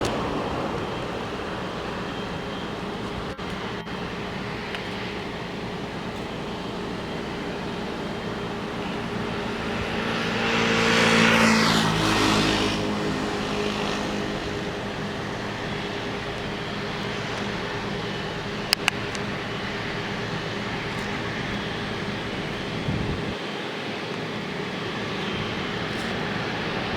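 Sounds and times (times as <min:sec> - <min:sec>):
jet engines passing by: 0:00.0 - 0:26.9.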